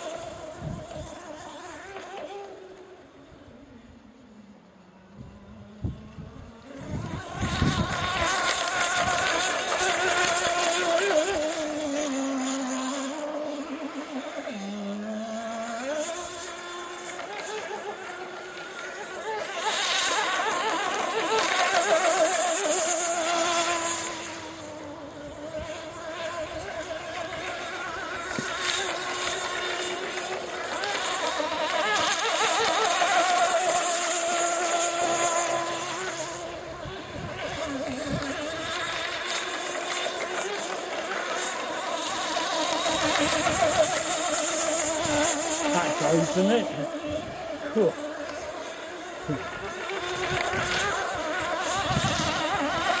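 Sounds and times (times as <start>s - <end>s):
model boat engine wailing: 0.0s - 53.0s.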